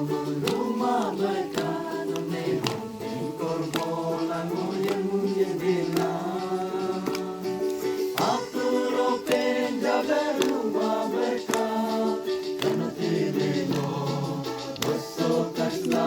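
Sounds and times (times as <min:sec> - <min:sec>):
group singing in harmony: 0:00.0 - 0:16.0
sharp taps keeping a beat: 0:00.0 - 0:16.0.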